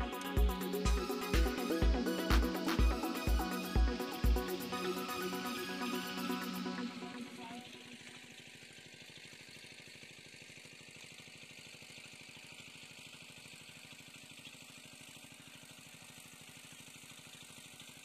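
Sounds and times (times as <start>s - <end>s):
faint small engine running: 0.0s - 18.0s.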